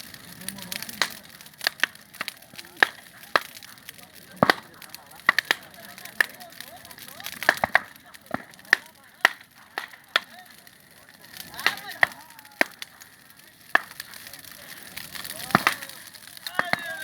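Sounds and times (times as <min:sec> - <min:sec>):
bonfire crackling and popping: 0:00.0 - 0:17.0.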